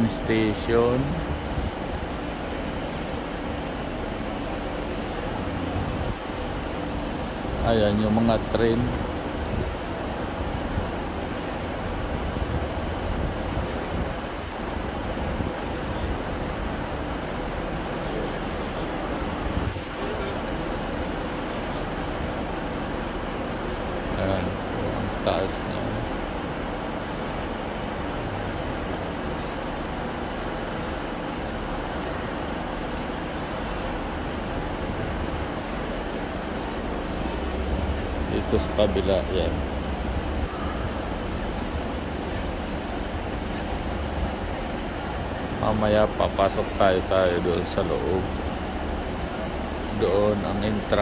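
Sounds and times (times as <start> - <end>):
passenger train idling: 0.0 - 51.0
railway station ambience rumble: 0.0 - 51.0.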